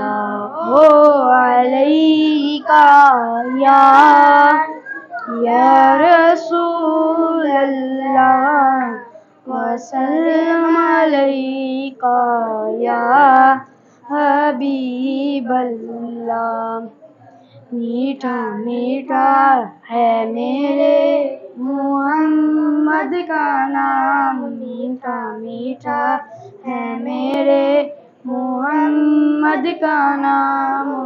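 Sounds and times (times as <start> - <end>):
boys singing unaccompanied: 0.0 - 31.0.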